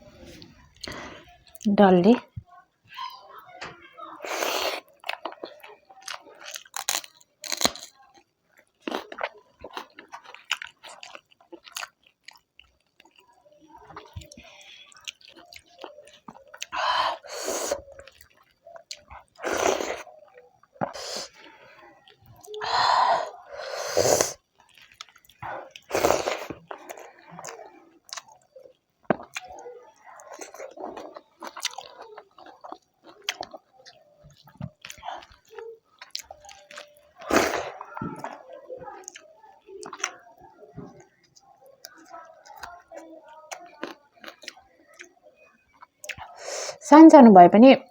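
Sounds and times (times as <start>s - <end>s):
person chewing food: 4.3s - 46.5s.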